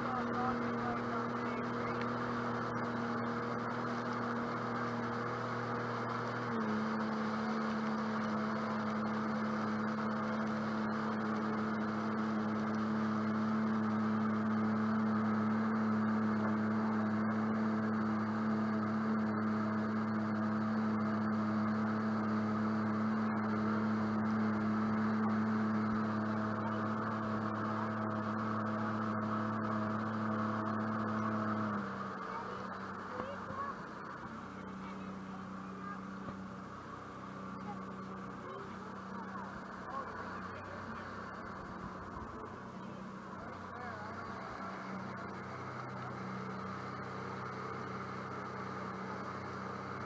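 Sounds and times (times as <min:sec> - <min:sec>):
jet boat engine running: 0:00.0 - 0:50.0.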